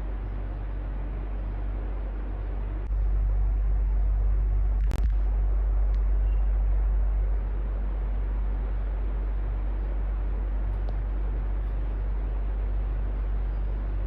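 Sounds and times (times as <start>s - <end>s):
electric fan running: 0.0s - 14.0s.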